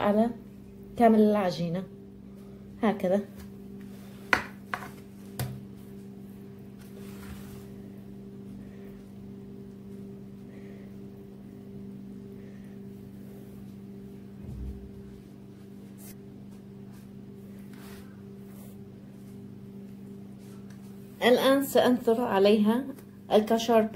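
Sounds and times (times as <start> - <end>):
electrical motor hum: 0.0 - 23.9.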